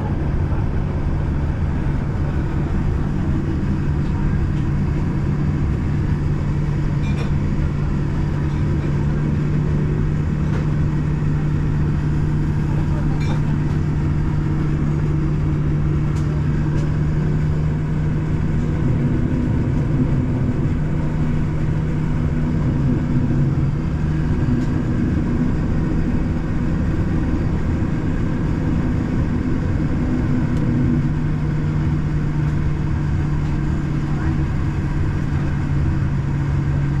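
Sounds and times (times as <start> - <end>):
airliner cabin hum: 0.0 - 37.0.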